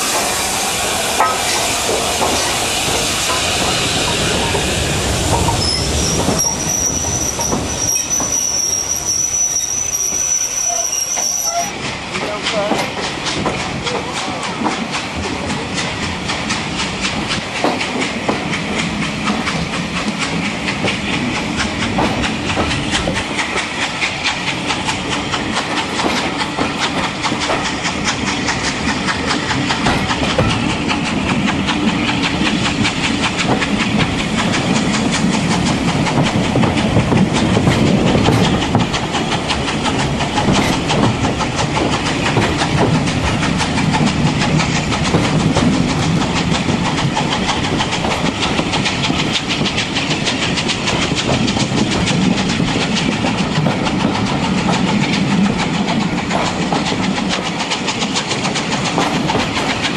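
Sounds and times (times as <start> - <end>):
steam locomotive exhaust and hiss: 0.0 - 59.9
train wheels clickety-clack: 0.0 - 59.9.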